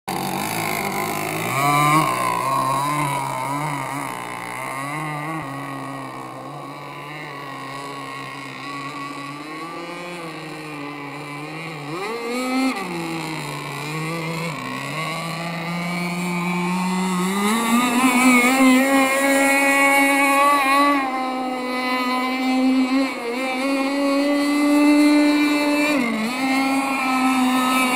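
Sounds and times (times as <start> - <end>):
two-stroke boat engine at speed: 0.1 - 27.9.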